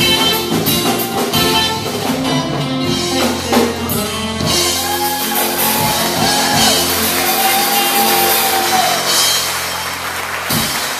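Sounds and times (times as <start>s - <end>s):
acoustic blues band playing: 0.0s - 10.9s.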